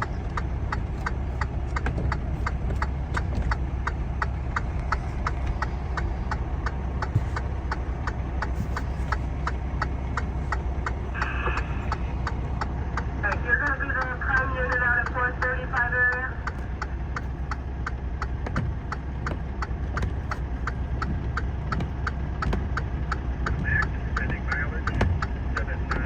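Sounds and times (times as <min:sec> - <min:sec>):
regular ticking: 0:00.0 - 0:26.0
vehicle engine idling: 0:00.0 - 0:26.0.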